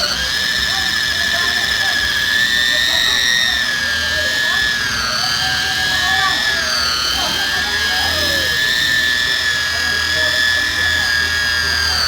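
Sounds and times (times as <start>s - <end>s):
electric buffer motor whine: 0.0s - 12.0s.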